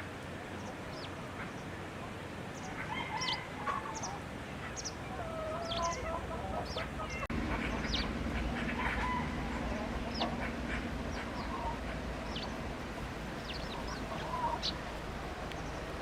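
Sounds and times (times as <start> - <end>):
chickens clucking: 0.6 - 16.0.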